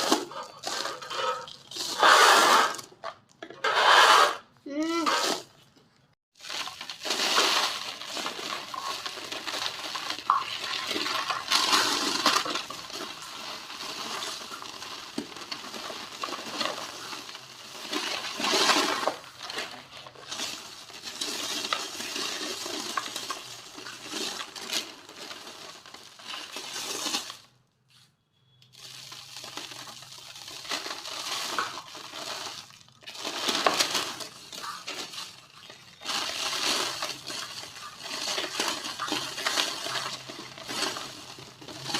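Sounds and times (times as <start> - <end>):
cement shapes crumbling and crunching: 4.9 - 27.6, 28.7 - 41.9.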